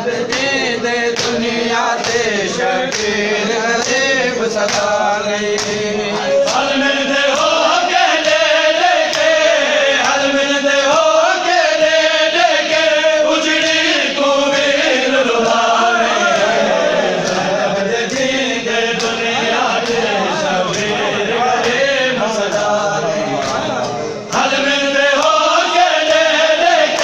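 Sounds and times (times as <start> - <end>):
men chanting in unison: 0.0 - 27.0.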